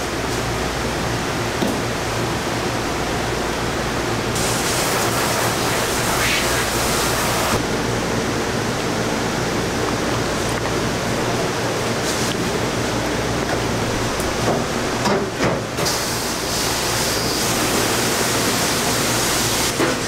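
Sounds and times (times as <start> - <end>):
ventilation fans rushing: 0.0 - 20.0.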